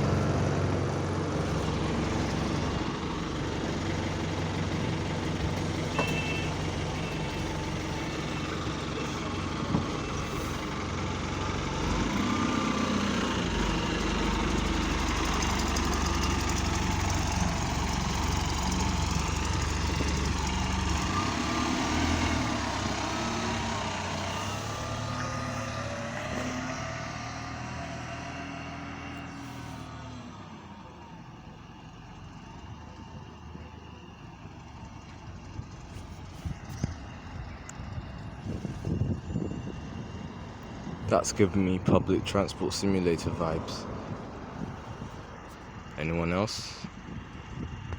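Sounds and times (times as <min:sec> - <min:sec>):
bus engine rumbling: 0:00.0 - 0:47.9
rising drivetrain whine: 0:00.0 - 0:47.9.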